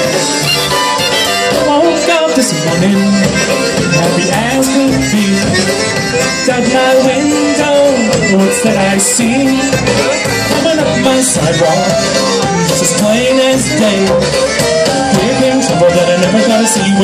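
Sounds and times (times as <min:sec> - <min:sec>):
accordion: 0:00.0 - 0:17.0
fiddle: 0:00.0 - 0:17.0
polka band playing: 0:00.0 - 0:17.0.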